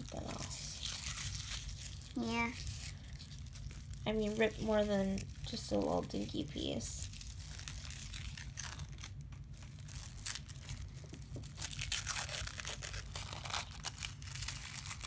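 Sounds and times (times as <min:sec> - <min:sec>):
paper wrapper ripping: 0:00.0 - 0:15.0.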